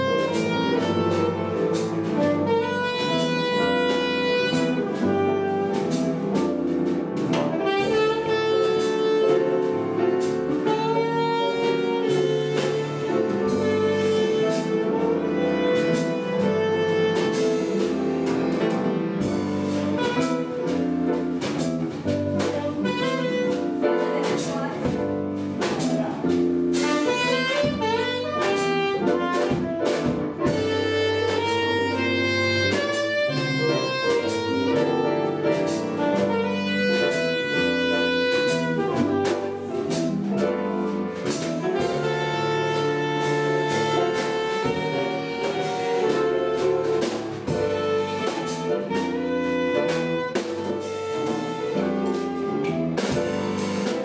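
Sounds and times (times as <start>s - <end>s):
bass: 0.0s - 54.0s
drum kit cymbals: 0.0s - 54.0s
piano: 0.0s - 54.0s
tenor saxophone melody: 0.0s - 54.0s.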